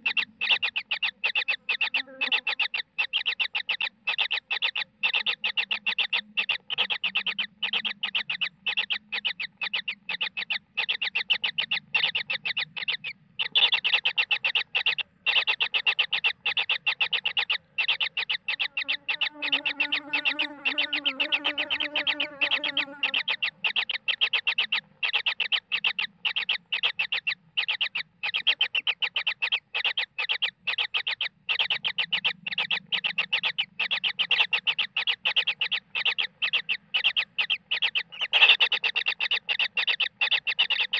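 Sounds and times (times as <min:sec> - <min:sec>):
lower drawn-out bird call: 0:00.0 - 0:40.9
nestlings chirping: 0:00.0 - 0:40.9.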